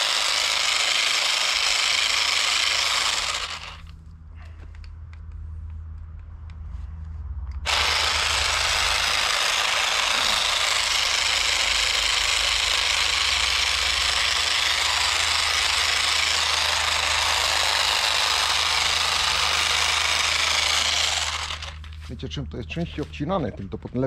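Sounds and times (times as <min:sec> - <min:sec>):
cordless shears running: 0:00.0 - 0:03.9, 0:07.7 - 0:23.5.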